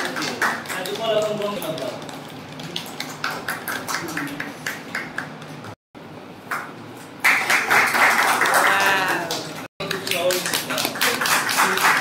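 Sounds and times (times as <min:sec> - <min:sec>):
people clapping: 0:00.0 - 0:05.8, 0:06.5 - 0:12.0.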